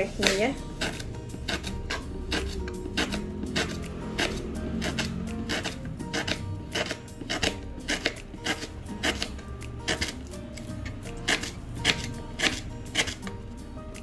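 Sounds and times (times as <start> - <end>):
background music: 0.0 - 14.0
knife slicing lemongrass: 0.0 - 14.0.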